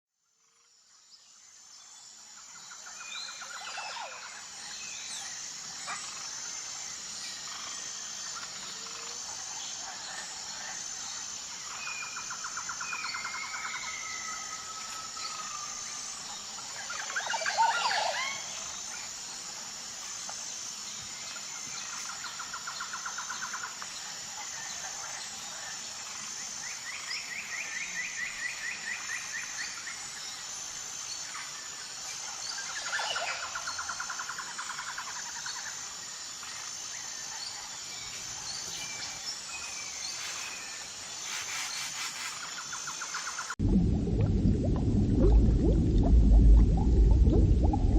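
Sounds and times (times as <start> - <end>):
insects chirping: 0.2 - 47.9.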